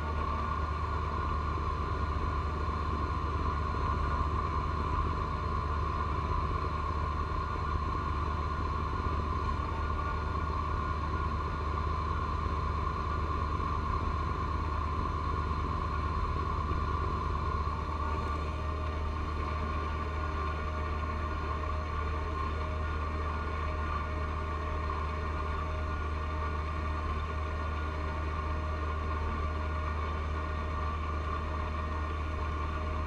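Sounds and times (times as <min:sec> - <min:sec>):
snow blower high whine: 0:00.0 - 0:33.0
tractor diesel engine running: 0:00.0 - 0:33.0.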